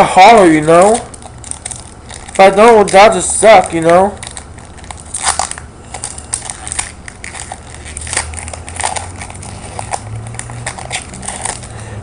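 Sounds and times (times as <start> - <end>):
plastic packaging crinkling: 0.2 - 11.9.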